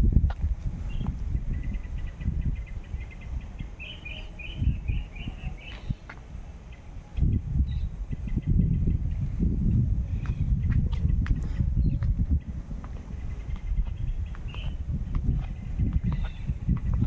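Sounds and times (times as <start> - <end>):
low microphone rumble: 0.0 - 17.0
small bird chirping: 0.8 - 8.7, 10.1 - 17.0.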